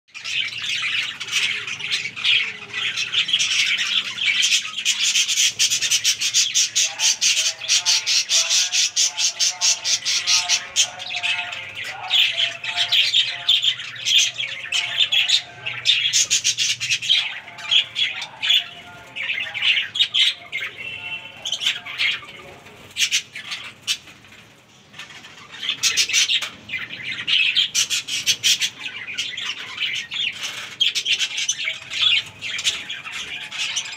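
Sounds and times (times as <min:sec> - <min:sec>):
budgerigars chattering: 0:00.2 - 0:24.1, 0:25.0 - 0:33.9.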